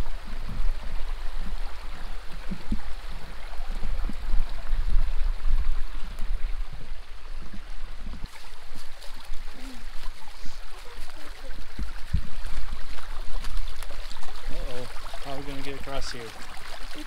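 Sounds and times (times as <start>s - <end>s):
creek trickling over stones: 0.0s - 17.0s.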